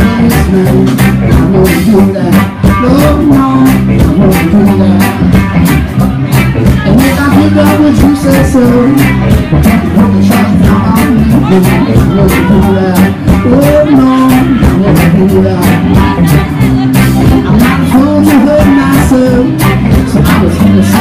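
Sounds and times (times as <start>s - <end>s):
bass guitar: 0.0s - 21.0s
drum kit beat: 0.0s - 21.0s
electric guitar: 0.0s - 21.0s
person singing: 0.0s - 21.0s.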